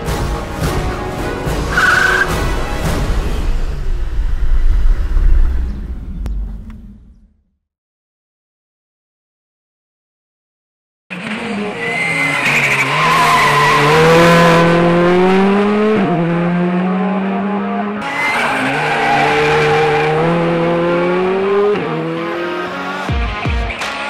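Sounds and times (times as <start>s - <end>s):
rally car engine at full throttle: 0.0s - 6.9s, 11.1s - 24.0s.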